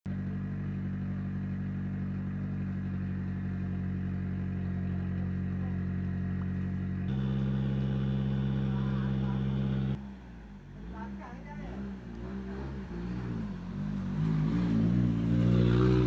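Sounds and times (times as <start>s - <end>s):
car engine idling: 0.1s - 14.2s.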